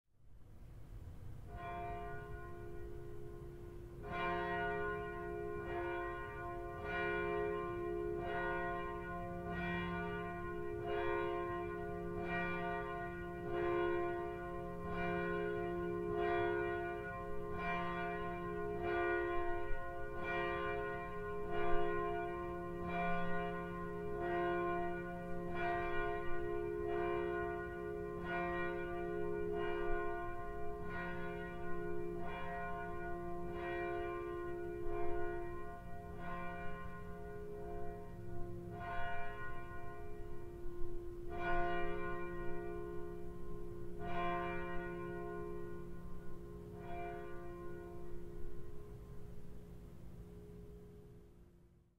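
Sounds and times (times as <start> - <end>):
church bells tolling: 1.3 - 51.4.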